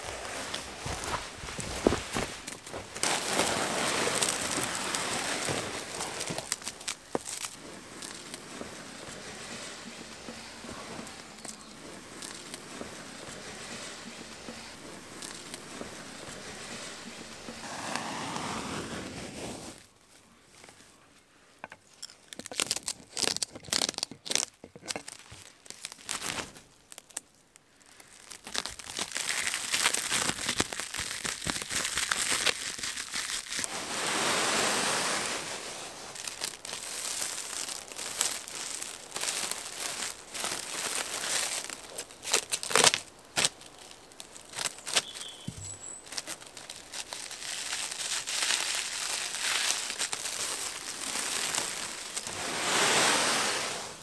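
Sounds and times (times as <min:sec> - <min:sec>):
plastic film crinkling: 0:00.0 - 0:18.8, 0:21.9 - 0:54.0
plastic wrap peeling off roll: 0:00.0 - 0:19.9, 0:22.3 - 0:54.0.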